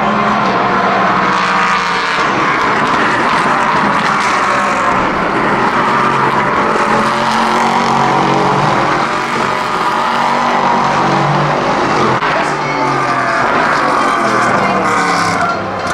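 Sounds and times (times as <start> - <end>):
race car engine running hard: 0.0 - 15.9.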